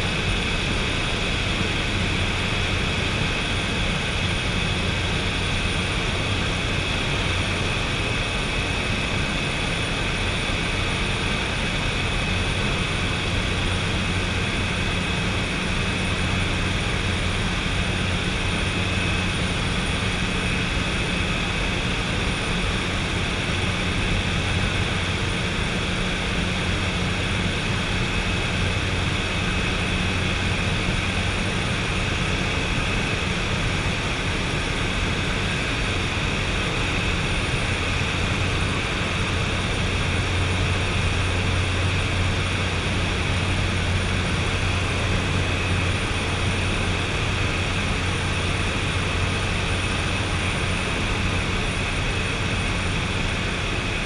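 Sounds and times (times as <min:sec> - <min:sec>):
propeller engine droning: 0:00.0 - 0:54.0.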